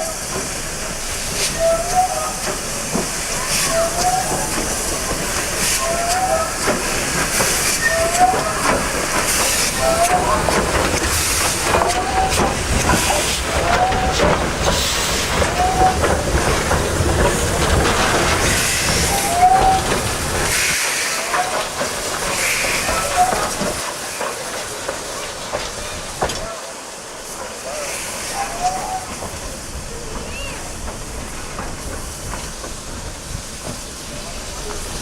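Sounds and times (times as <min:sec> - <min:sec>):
rail noise: 0:00.0 - 0:35.0
steam hiss: 0:00.0 - 0:35.0.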